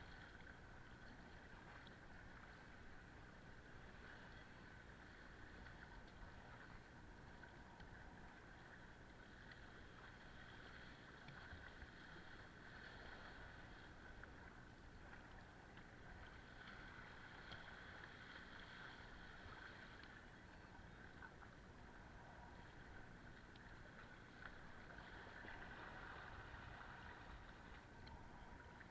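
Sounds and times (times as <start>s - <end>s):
water swishing along boat hull: 0.0s - 28.9s.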